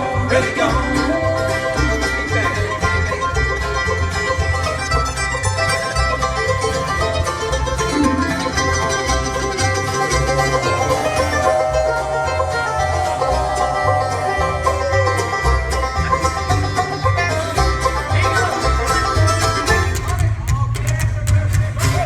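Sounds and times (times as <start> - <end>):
banjo: 0.0 - 22.0
bluegrass band playing: 0.0 - 22.0.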